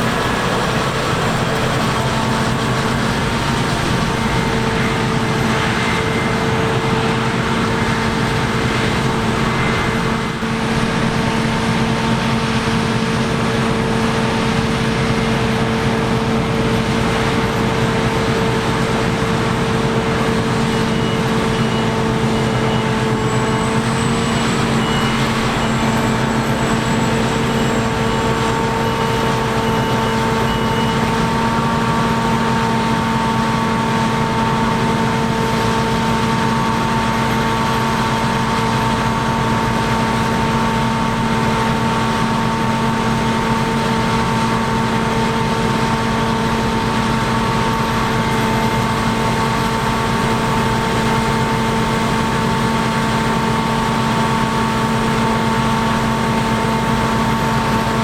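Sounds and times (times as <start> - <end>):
diesel engine drone: 0.0 - 58.0
steady whining tones: 0.0 - 58.0.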